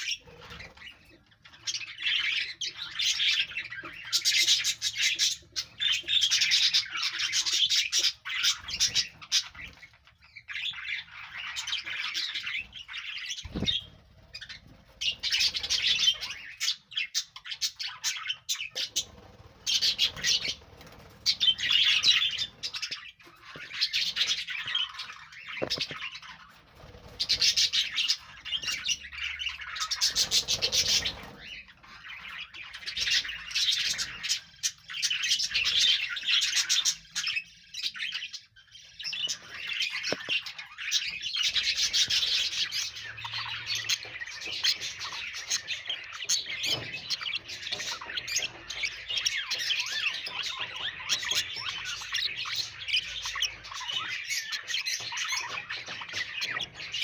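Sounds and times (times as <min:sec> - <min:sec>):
budgerigars chirping and warbling: 0:00.0 - 0:57.0.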